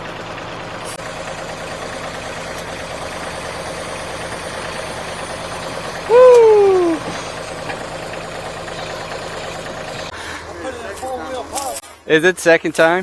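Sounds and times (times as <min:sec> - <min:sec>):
heavy vehicle engine idling: 0:00.0 - 0:11.8.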